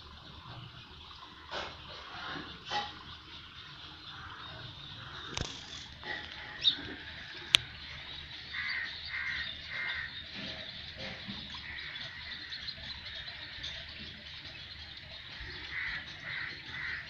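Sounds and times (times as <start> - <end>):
bird harsh calls: 1.4 - 17.0.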